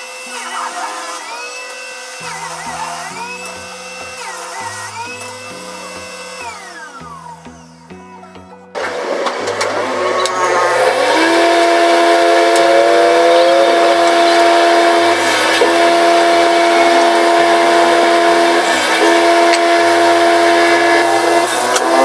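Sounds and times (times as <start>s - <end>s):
power tool motor whining: 0.0s - 22.0s.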